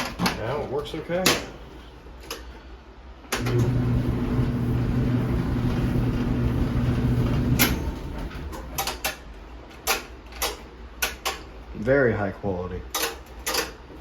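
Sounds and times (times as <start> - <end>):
clothes dryer running: 0.0 - 11.7.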